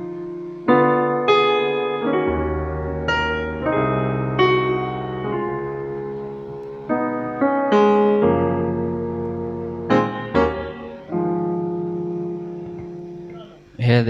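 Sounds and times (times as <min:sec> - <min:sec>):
piano chords on keyboard: 0:00.0 - 0:13.9.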